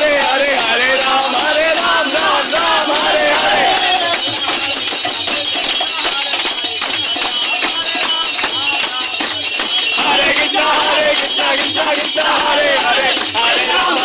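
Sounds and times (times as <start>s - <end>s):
voices chanting: 0.0s - 5.6s, 7.7s - 14.0s
barrel drum beaten fast: 0.0s - 14.0s
hands clapping: 0.0s - 14.0s
high metallic jingle: 0.0s - 14.0s.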